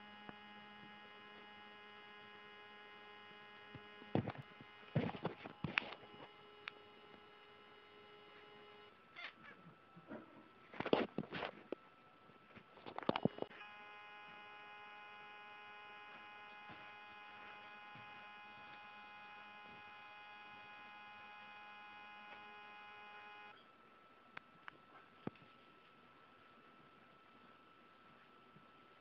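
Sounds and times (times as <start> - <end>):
electrical buzzing hum: 0.0 - 29.0.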